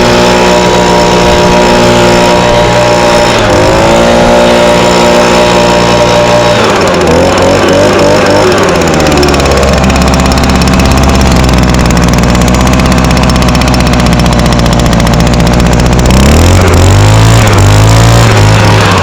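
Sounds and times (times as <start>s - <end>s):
leaf blower engine idling and revving: 0.0s - 19.0s.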